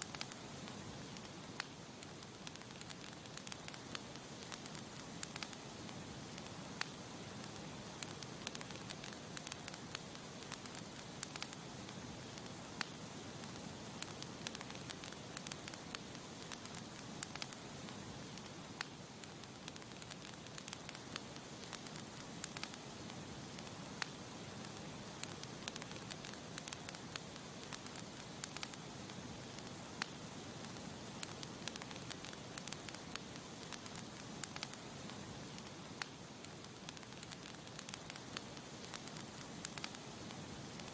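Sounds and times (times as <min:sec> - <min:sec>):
burning wood crackling and popping: 0:00.0 - 0:40.9
campfire hissing: 0:00.0 - 0:40.9.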